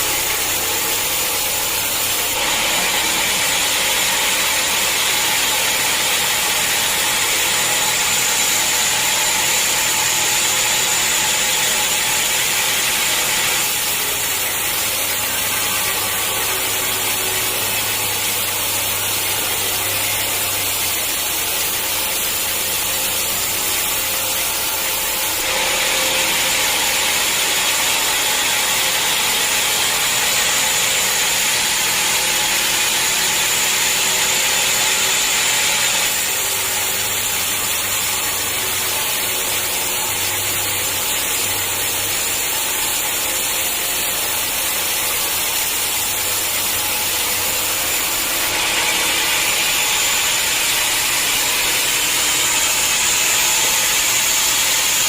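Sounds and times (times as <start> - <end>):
sawmill saw cutting log: 0.0 - 55.0.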